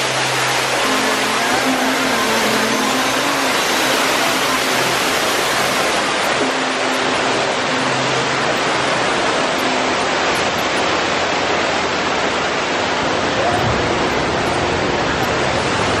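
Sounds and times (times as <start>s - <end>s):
water cascading down rocks: 0.0s - 16.0s.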